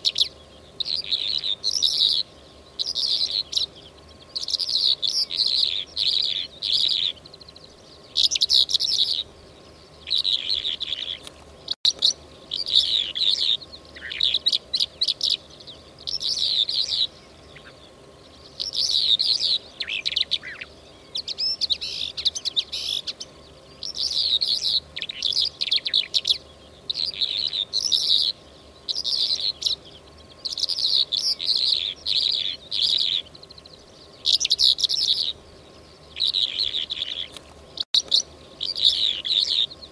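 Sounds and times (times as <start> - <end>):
lark song chirping and trilling: 0.0 - 39.9.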